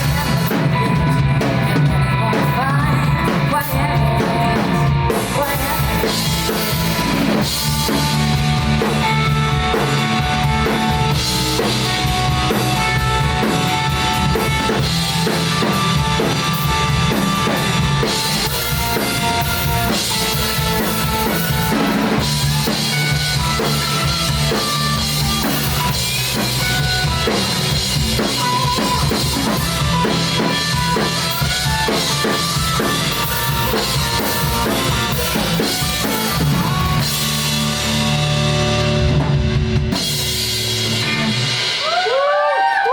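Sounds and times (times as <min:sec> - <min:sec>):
band music: 0:00.0 - 0:42.9
drum kit beat: 0:00.0 - 0:42.9.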